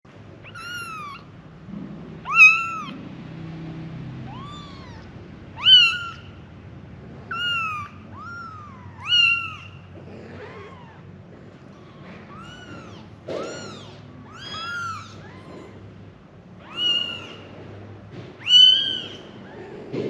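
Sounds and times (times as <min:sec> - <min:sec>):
kittens meowing: 0:00.3 - 0:01.4, 0:02.2 - 0:03.1, 0:04.1 - 0:06.5, 0:07.1 - 0:17.6, 0:18.3 - 0:20.0.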